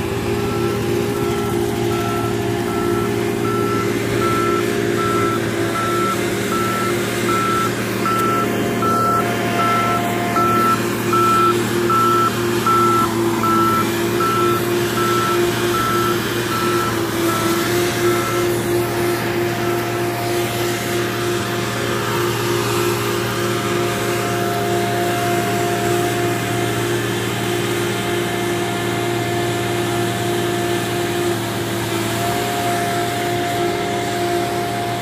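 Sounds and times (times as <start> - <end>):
engine running: 0.0 - 35.0
truck reversing alarm beeping: 0.0 - 35.0.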